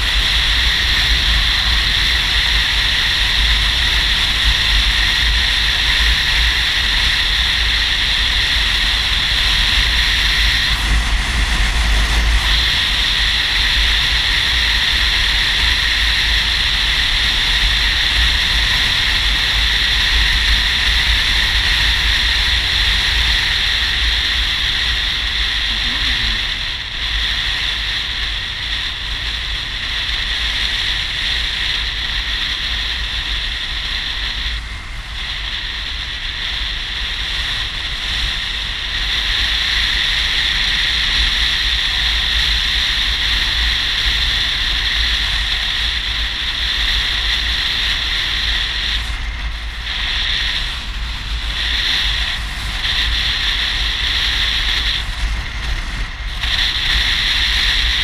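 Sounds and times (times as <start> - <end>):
motorcycle low rumble: 0.0 - 58.0
wind rushing over microphone: 0.0 - 58.0.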